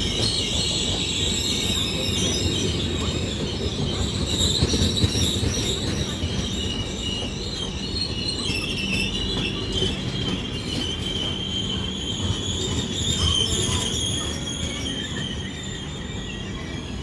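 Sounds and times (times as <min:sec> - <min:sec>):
train wheels squealing: 0:00.0 - 0:17.0.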